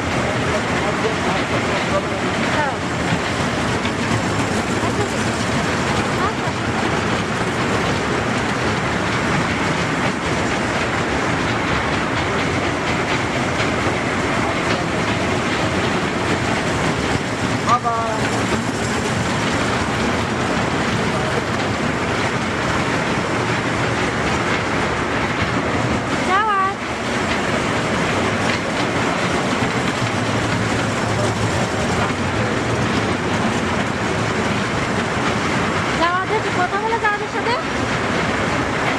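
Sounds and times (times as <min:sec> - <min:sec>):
train wheels rattling on rails: 0:00.0 - 0:38.9.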